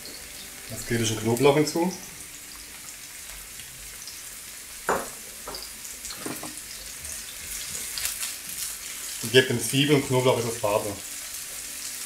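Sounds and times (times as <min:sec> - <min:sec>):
onions frying in oil: 0:00.0 - 0:12.0.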